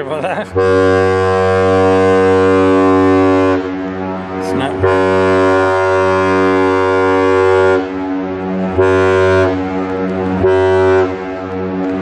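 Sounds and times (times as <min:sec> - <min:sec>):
ship horn blasts: 0:00.0 - 0:12.0.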